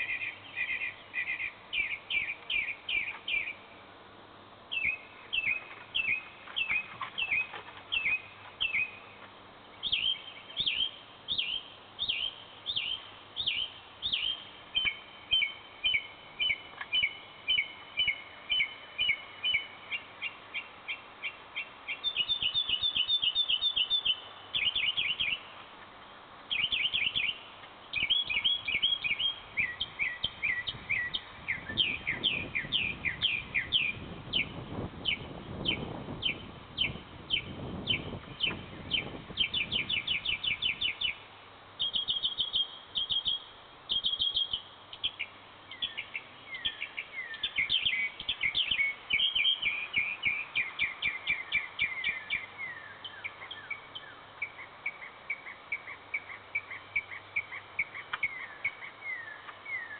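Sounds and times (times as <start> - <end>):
mockingbird singing: 0.0 - 3.7, 4.7 - 25.6, 26.5 - 41.2, 41.8 - 59.9.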